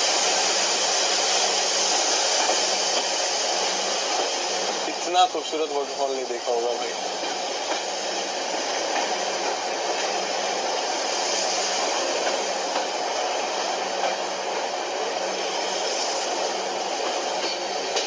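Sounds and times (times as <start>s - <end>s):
train rushing hiss: 0.0s - 18.0s.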